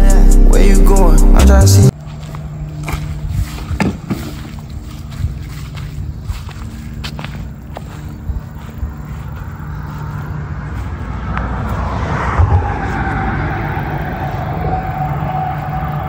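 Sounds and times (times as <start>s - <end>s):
higher steady drone: 0.0s - 3.8s, 4.4s - 16.0s
motor vehicle running: 0.0s - 16.0s.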